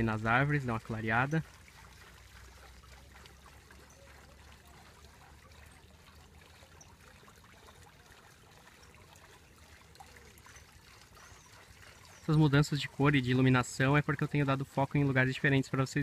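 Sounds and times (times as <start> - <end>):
water trickling into lake: 0.0 - 16.0.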